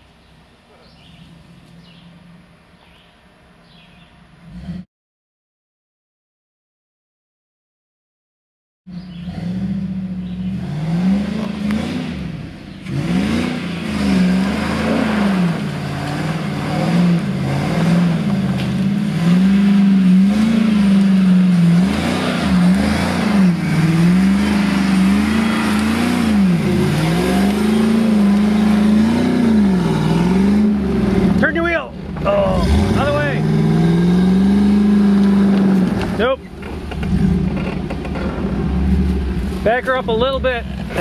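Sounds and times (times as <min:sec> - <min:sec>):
off-road vehicle engine revving: 0:03.8 - 0:04.9, 0:08.9 - 0:41.0.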